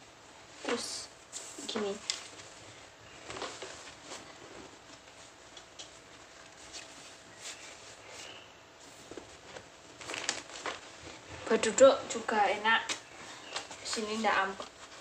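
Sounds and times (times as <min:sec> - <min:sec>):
clothing rustling: 0:00.0 - 0:15.0.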